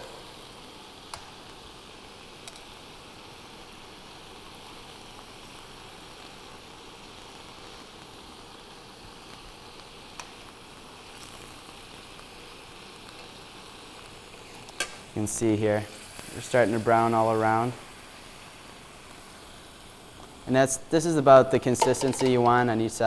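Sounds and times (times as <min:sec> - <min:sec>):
tofu sizzling in oil: 0:00.0 - 0:22.9.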